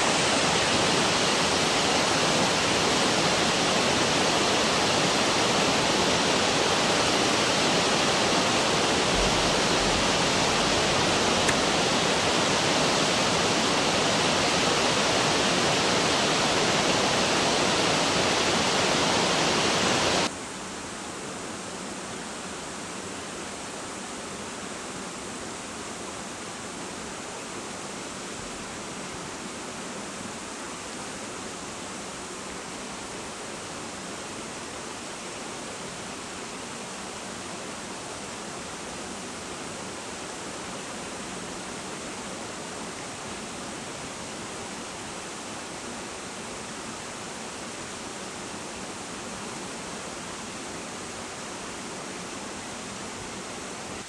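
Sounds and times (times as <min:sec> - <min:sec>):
flowing river water: 0:00.0 - 0:54.0.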